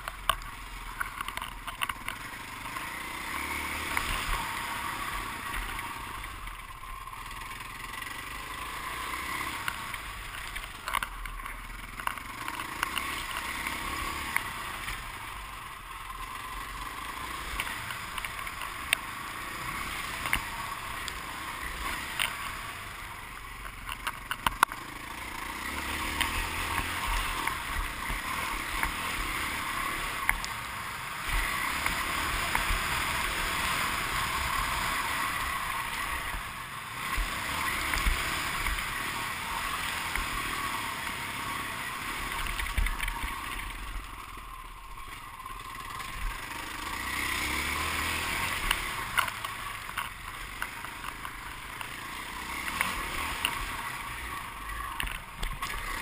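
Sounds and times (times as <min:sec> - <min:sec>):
dirt bike engine revving: 0:01.9 - 0:10.8, 0:11.6 - 0:23.3, 0:24.2 - 0:56.0.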